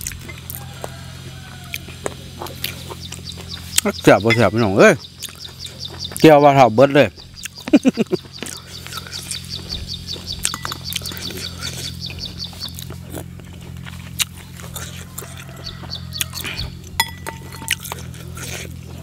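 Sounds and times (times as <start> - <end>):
mouth sounds of eating: 0.0 - 17.0, 17.6 - 19.0
low steady hum: 0.0 - 19.0
bird chirping rapidly: 1.4 - 19.0.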